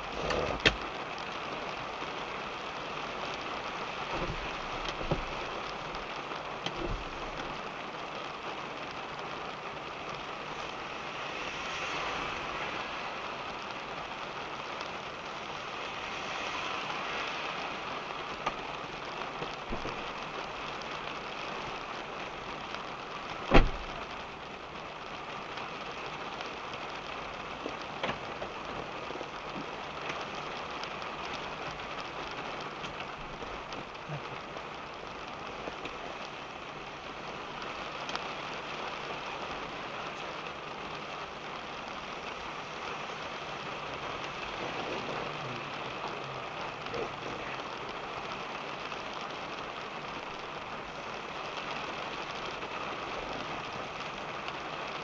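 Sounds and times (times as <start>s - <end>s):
rain pattering on a car: 0.0s - 55.0s.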